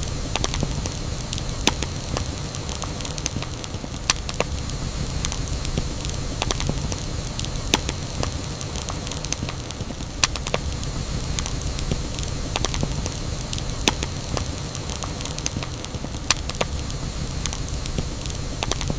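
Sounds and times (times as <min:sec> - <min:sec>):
campfire rumble and hiss: 0:00.0 - 0:18.9
wood crackles and pops: 0:00.0 - 0:18.9.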